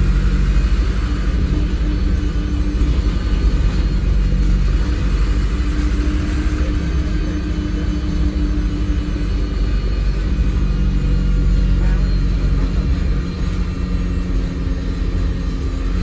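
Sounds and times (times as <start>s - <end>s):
bus engine rumble: 0.0s - 16.0s
steady humming tone: 0.0s - 16.0s.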